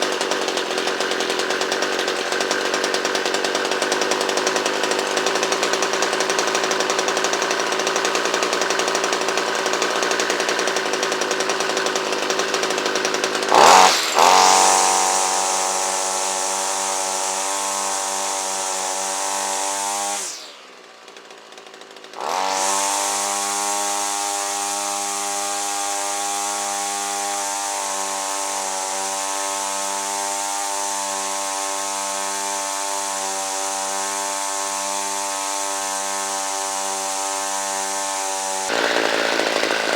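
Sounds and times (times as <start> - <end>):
string trimmer engine running: 0.0 - 39.9.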